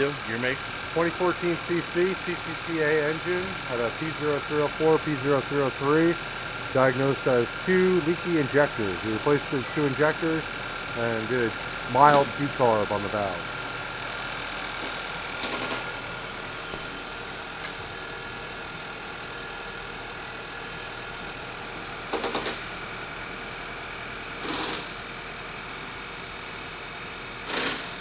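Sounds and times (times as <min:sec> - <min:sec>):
car engine idling: 0:00.0 - 0:27.4.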